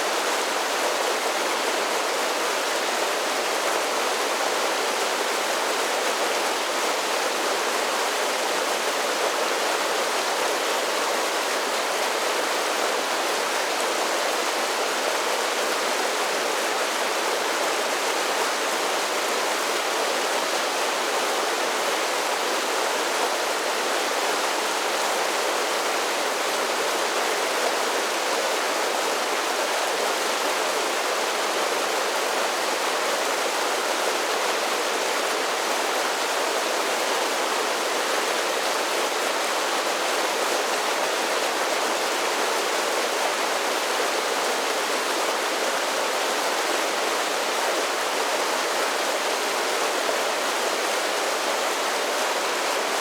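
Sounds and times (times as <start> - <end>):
creek water rushing over falls: 0.0 - 53.0.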